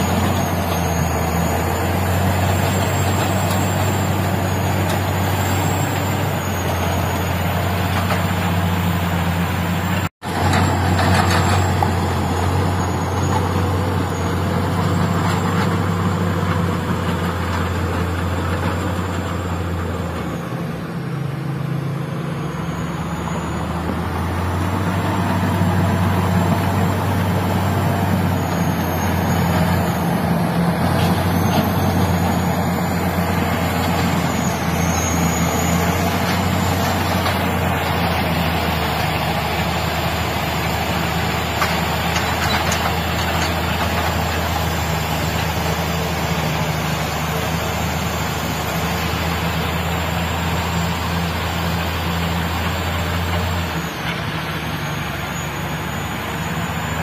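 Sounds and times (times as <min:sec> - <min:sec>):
bulldozer diesel engines: 0:00.0 - 0:57.0
mining machines working: 0:00.0 - 0:57.0.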